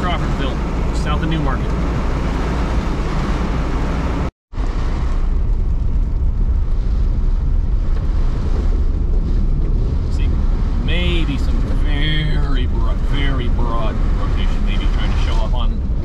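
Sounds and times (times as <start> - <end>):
car rumble with road noise: 0.0 - 16.0.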